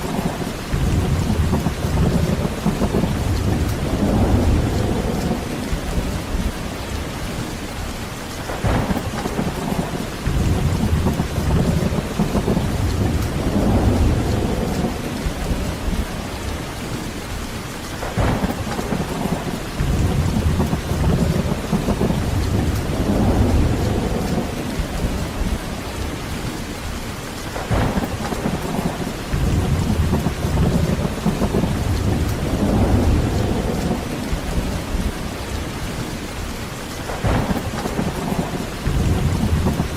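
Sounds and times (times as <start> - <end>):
sharp cracks of thunder: 0.0 - 6.8, 8.5 - 16.2, 18.0 - 26.1, 27.5 - 36.0, 37.0 - 39.9
heavy rain: 0.0 - 39.9
thunder rumbling: 0.0 - 39.9.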